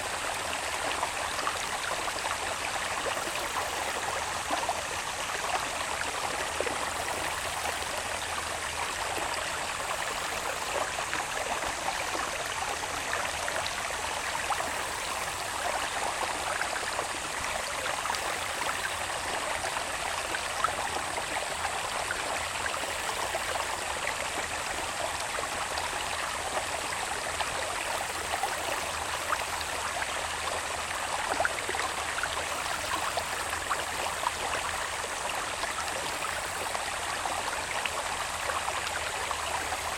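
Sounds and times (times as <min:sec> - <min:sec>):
water channel babbling: 0:00.0 - 0:39.9.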